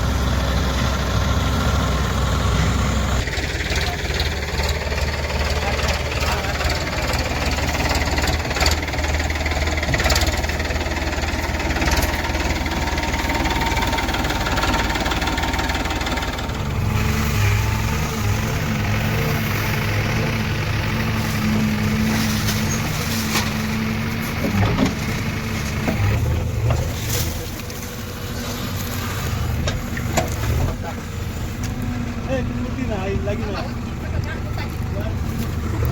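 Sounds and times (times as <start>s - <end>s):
heavy machinery diesel engine: 0.0s - 35.9s.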